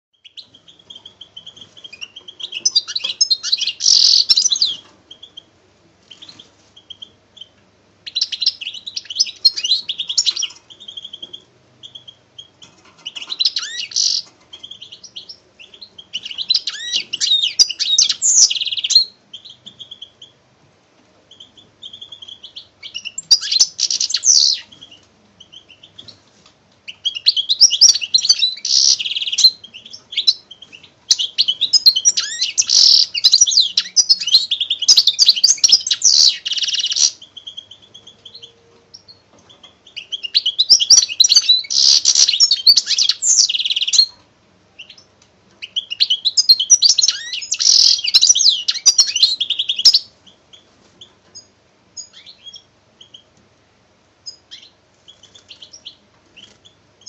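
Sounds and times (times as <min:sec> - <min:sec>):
songbird singing chirps and trills: 0:00.2 - 0:53.5, 0:54.1 - 0:57.0.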